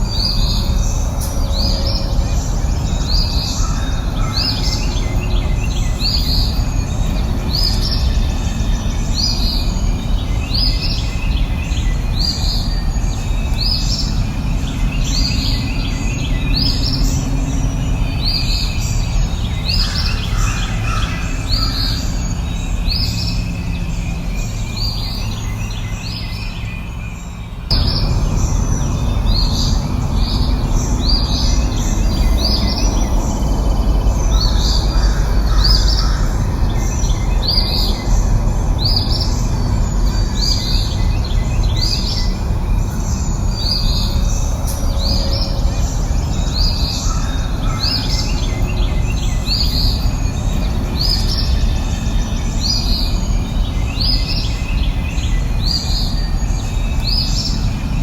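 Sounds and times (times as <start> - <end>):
bird chirping: 0.0 - 58.0
rushing background noise: 0.0 - 58.0.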